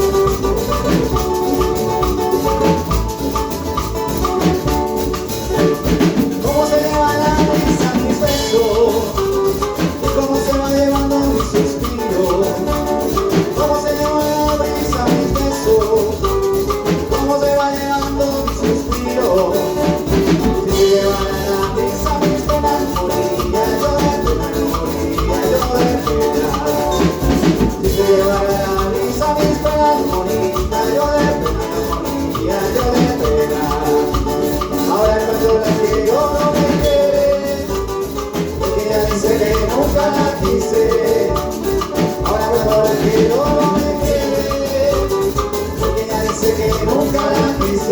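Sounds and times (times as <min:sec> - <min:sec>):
latin tropical instrumental music: 0:00.0 - 0:47.9.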